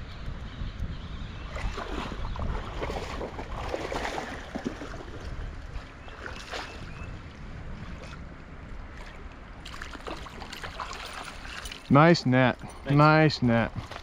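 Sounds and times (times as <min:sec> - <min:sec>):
wind rumbling on microphone: 0:00.0 - 0:14.0
stream water running: 0:01.5 - 0:14.0.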